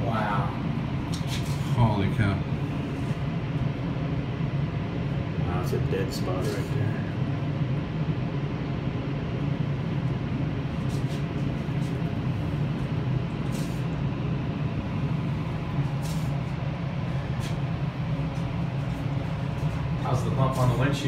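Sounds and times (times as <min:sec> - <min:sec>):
wind tunnel fans rumbling: 0:00.0 - 0:21.0.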